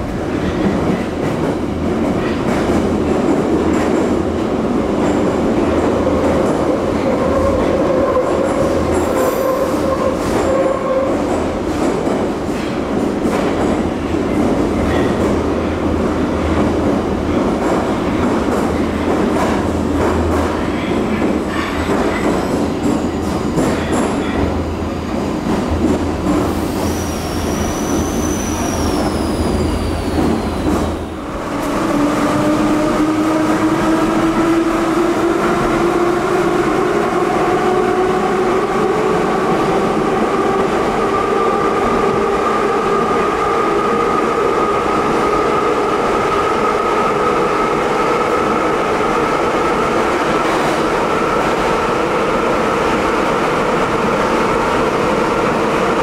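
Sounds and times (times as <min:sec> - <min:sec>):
metro car running on rails: 0:00.0 - 0:56.0.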